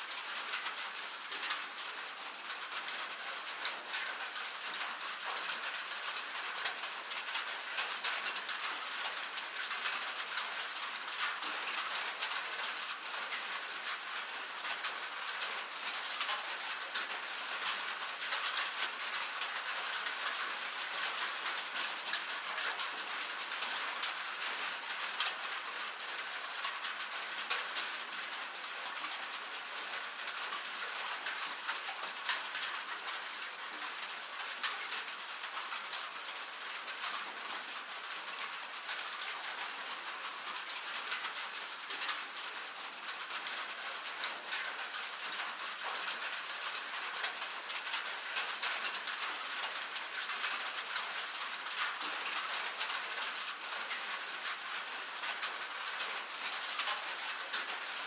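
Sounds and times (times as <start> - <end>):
rain drumming on metal roof: 0.0 - 58.0.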